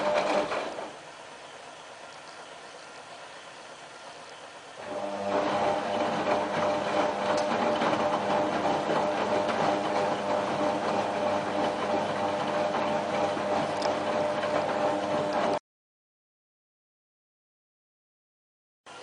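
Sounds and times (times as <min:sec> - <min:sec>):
washing machine humming: 0:00.0 - 0:15.6.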